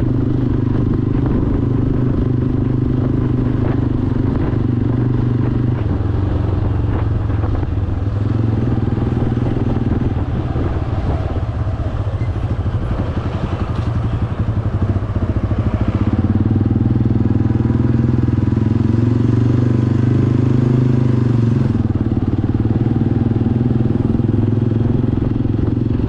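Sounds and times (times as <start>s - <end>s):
motorcycle engine droning: 0.0s - 26.0s.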